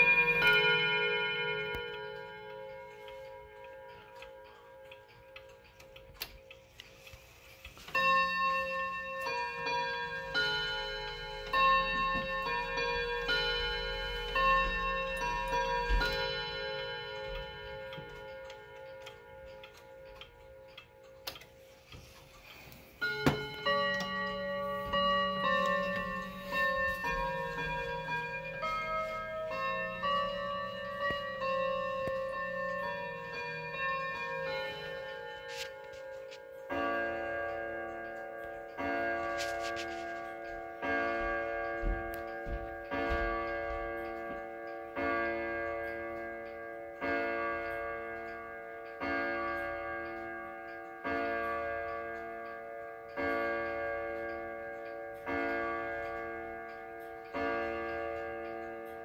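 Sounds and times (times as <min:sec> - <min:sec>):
clock ticking: 0:00.0 - 0:59.0
wall clock chime tune: 0:00.0 - 0:59.0.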